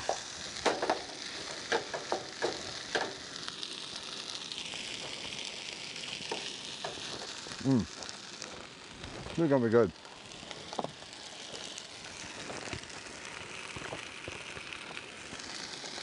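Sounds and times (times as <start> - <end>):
fried rice sizzling in a pot: 0.0 - 16.0.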